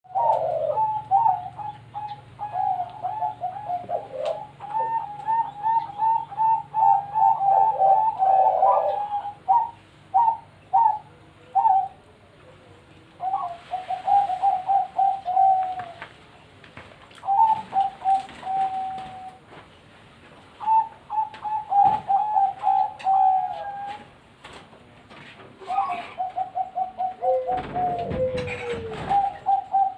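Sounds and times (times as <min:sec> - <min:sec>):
dove cooing: 0:00.0 - 0:16.1, 0:17.2 - 0:19.5, 0:20.6 - 0:24.2, 0:25.6 - 0:29.9.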